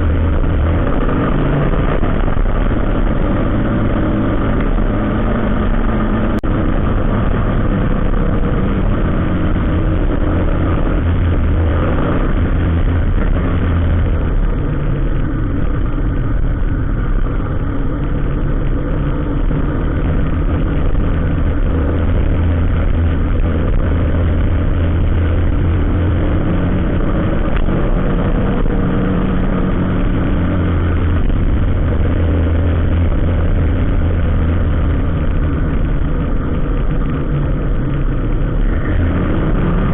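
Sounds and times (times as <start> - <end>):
road noise: 0.0 - 39.9
vehicle engine humming: 0.0 - 39.9.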